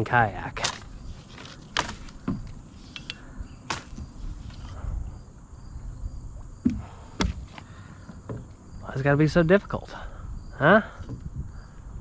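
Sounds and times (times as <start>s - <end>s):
faint insect drone: 0.0s - 12.0s.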